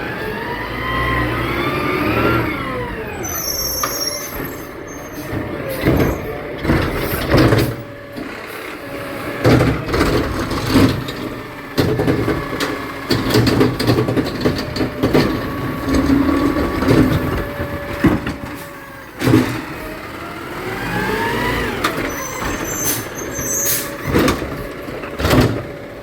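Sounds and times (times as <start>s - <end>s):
garbage truck engine revving: 0.0s - 26.0s.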